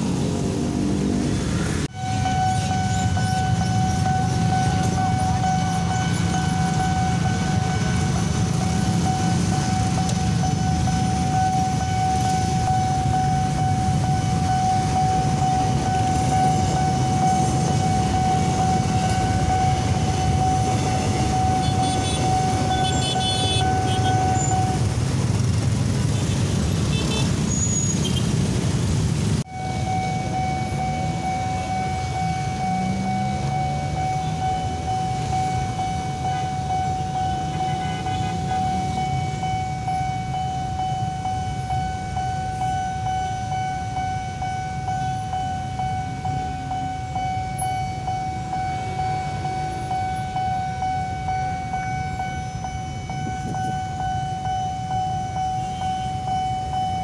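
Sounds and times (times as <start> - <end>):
passing train rumble: 0.0 - 57.0
level crossing alarm tone: 1.8 - 25.6, 29.4 - 57.0.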